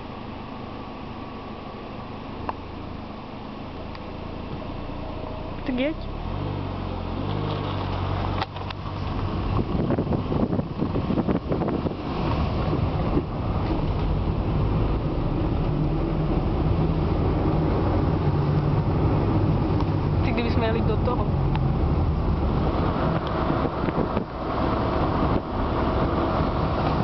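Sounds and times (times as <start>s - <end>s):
car engine: 0.0s - 27.0s
road rumble inside car: 0.0s - 27.0s.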